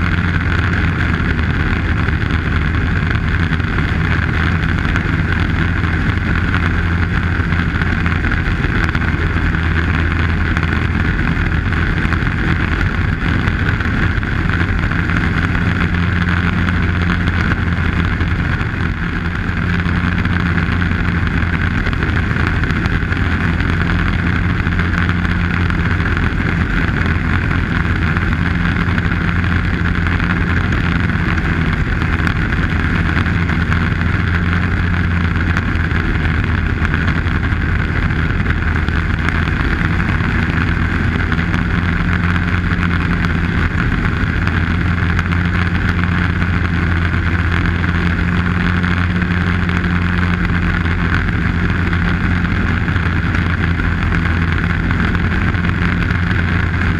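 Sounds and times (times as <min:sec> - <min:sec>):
snowmobile engine drone: 0:00.0 - 0:56.9.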